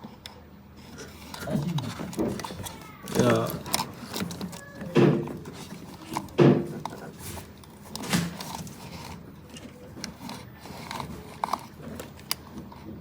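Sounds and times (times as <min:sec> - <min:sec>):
light clicks and rubbing: 0:00.0 - 0:13.0.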